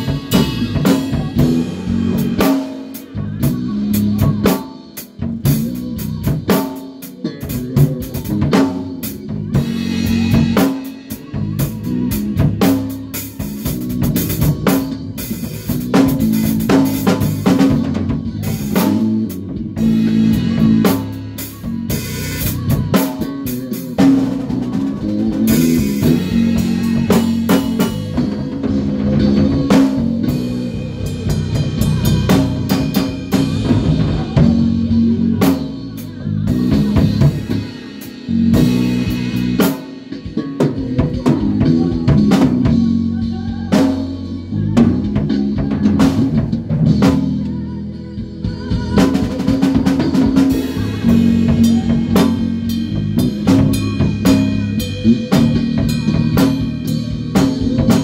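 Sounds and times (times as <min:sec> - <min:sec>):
bass guitar line: 0:00.0 - 0:58.0
drum kit playing groove: 0:00.0 - 0:58.0.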